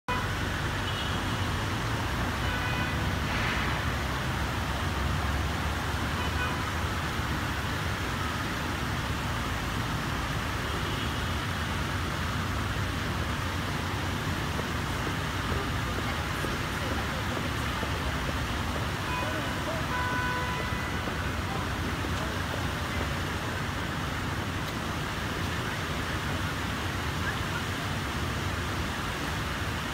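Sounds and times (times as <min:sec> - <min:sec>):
city traffic rumble: 0:00.0 - 0:29.9
fountain water rushing: 0:00.1 - 0:29.9.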